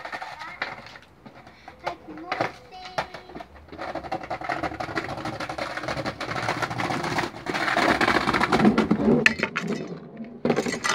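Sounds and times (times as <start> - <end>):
skateboard rolling over bricks: 0.0 - 10.9.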